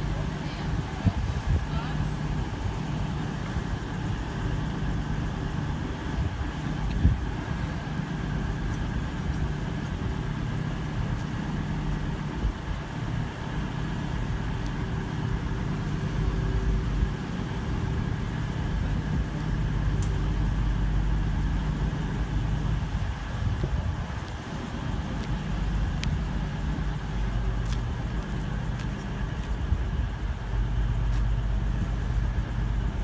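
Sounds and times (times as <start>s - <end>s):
train diesel engines humming: 0.0s - 33.0s.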